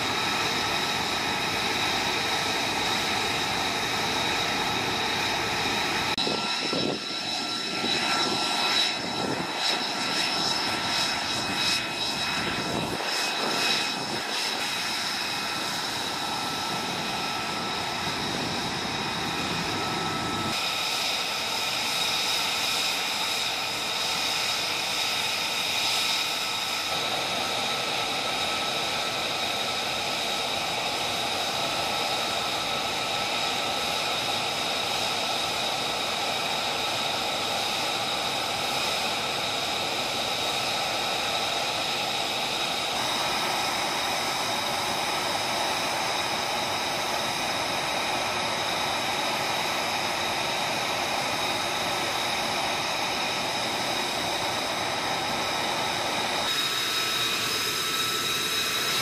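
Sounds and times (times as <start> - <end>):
jet engine idling: 0.0 - 59.0.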